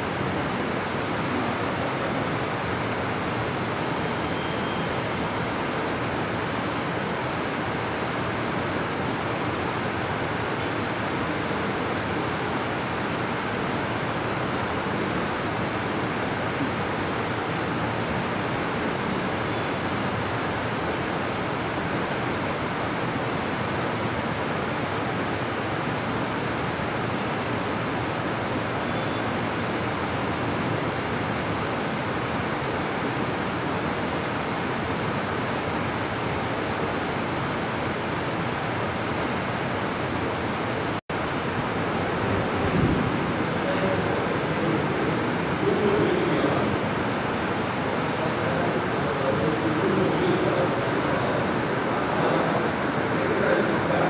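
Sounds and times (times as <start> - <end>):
steady rushing room noise: 0.0 - 54.0.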